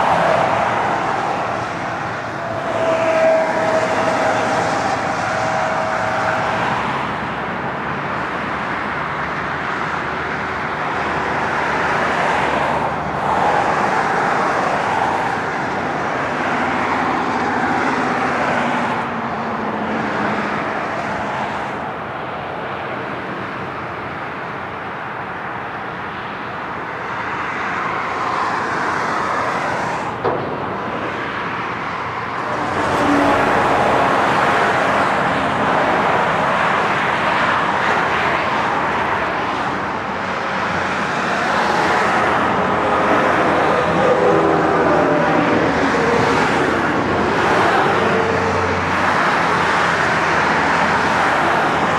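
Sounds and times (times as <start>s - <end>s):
passing cars: 0.0s - 51.9s.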